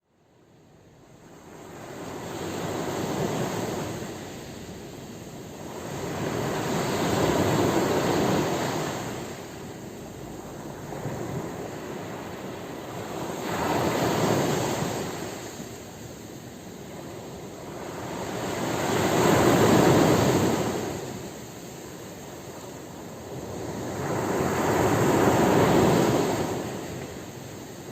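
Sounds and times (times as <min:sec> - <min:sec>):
sea waves washing ashore: 0:00.8 - 0:27.9.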